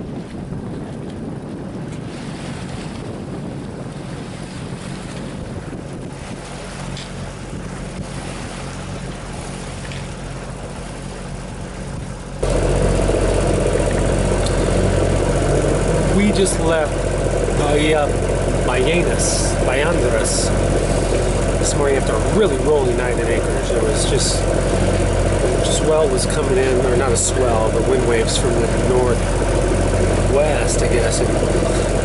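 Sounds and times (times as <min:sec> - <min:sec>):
boat engine running: 0:00.0 - 0:32.0
water washing past hull: 0:00.0 - 0:32.0
wind buffeting microphone: 0:00.0 - 0:32.0.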